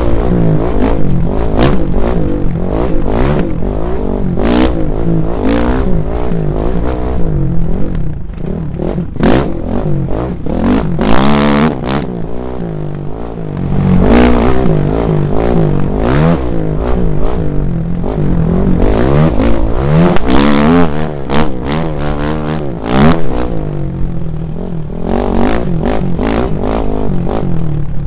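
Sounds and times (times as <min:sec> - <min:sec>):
off-road vehicle engine revving: 0:00.0 - 0:28.0.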